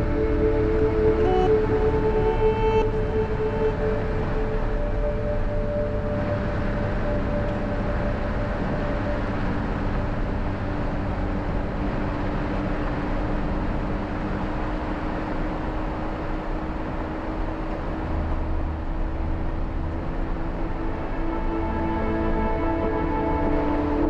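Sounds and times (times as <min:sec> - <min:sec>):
vehicle engine and tyre noise: 0:00.0 - 0:24.0.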